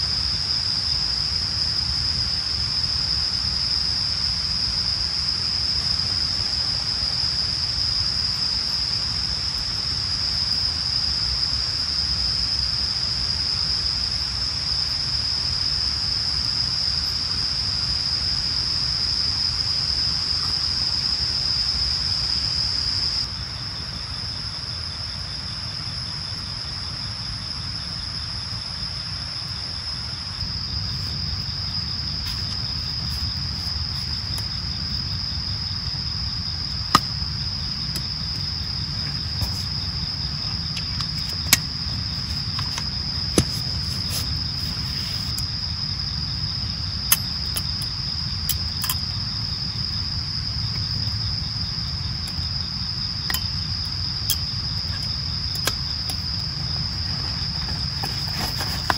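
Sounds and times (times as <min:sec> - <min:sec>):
high-pitched insect chorus: 0:00.0 - 0:58.9.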